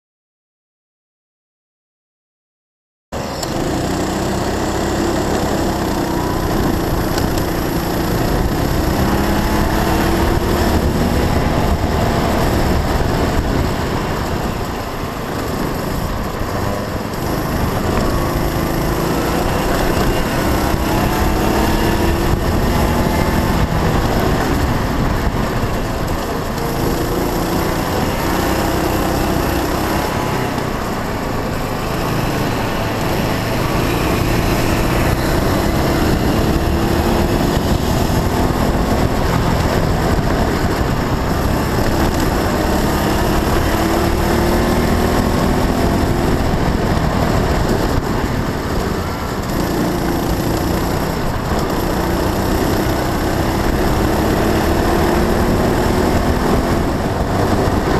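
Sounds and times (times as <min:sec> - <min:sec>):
kart engine revving: 0:03.2 - 0:57.9.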